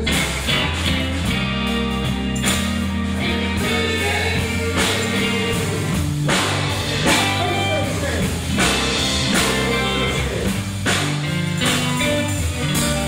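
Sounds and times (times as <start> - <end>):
live rock band playing: 0.0 - 13.0
sustained guitar lead line: 0.0 - 13.0.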